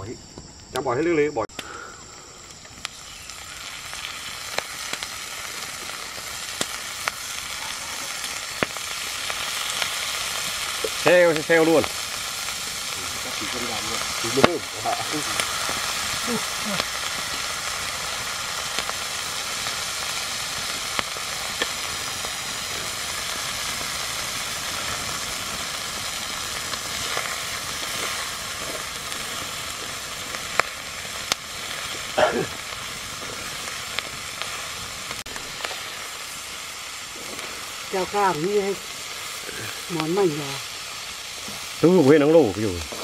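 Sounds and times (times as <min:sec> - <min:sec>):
grasshoppers sizzling in a wok: 0:00.0 - 0:43.0.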